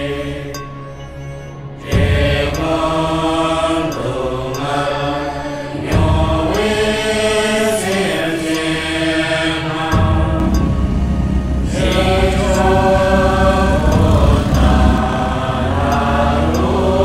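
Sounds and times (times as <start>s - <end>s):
low drone: 0.0s - 17.0s
voice chanting long notes: 0.0s - 17.0s.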